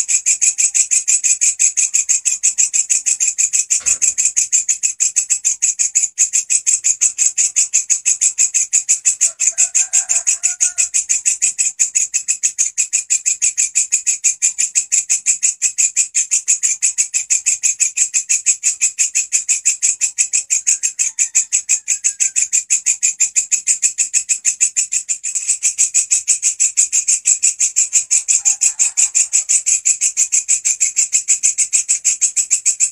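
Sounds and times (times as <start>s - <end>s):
katydid stridulating shrill pulses: 0.0s - 12.3s, 15.3s - 32.9s.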